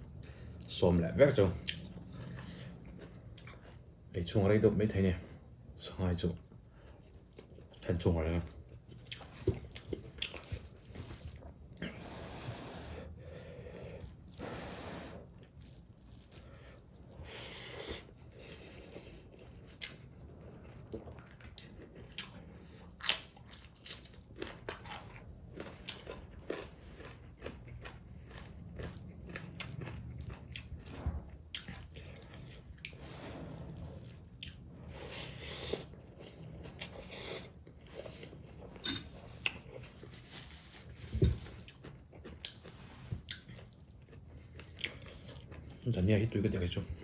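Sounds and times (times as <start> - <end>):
person chewing crunchy food: 0.0 - 4.1, 6.4 - 46.1.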